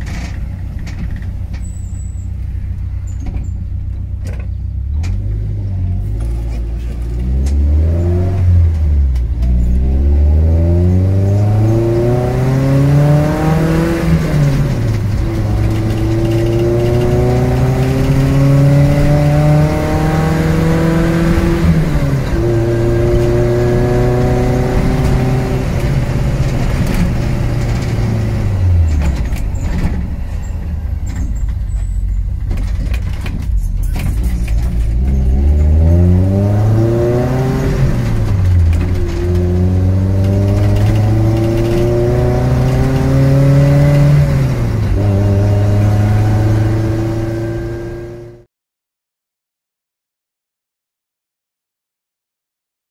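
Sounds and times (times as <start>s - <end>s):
car engine pulling away: 0.0s - 48.5s.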